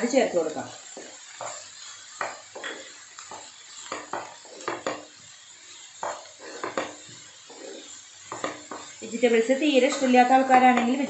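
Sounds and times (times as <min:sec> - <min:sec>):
faint sizzle: 0:00.0 - 0:11.0
spatula scraping frying pan: 0:00.0 - 0:11.0.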